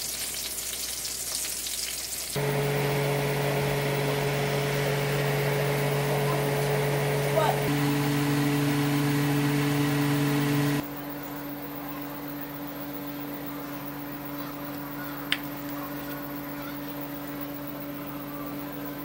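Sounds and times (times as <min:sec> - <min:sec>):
mechanical hum and whir: 0:02.4 - 0:19.0.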